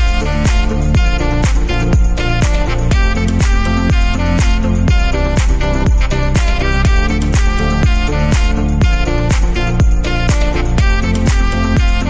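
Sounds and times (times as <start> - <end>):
upbeat music with steady beat: 0.0 - 12.0.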